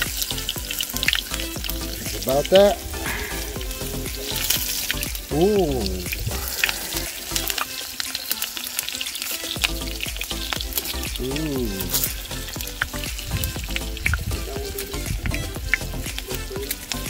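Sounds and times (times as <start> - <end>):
onions sizzling in pan: 0.0 - 17.0.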